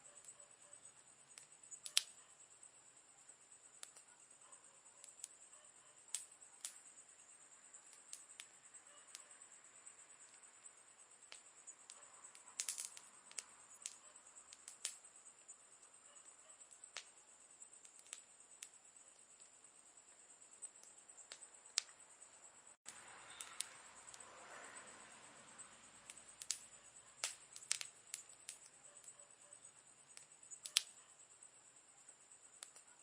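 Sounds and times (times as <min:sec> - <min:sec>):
campfire wood crackling: 0:00.0 - 0:31.4, 0:32.2 - 0:33.0
faint high-pitched hiss: 0:00.0 - 0:33.0.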